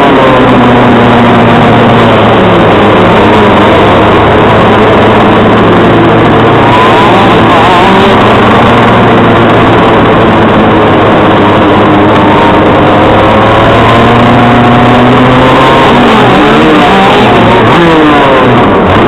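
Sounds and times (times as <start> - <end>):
kart engine running hard: 0.0 - 19.0
other kart engines nearby: 0.0 - 19.0.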